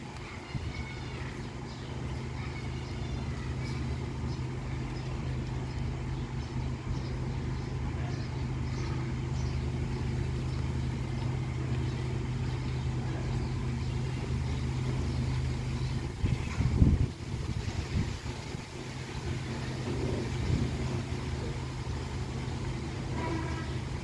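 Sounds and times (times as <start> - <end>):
low mechanical hum: 0.0 - 24.0
wind rustling through trees: 0.0 - 24.0.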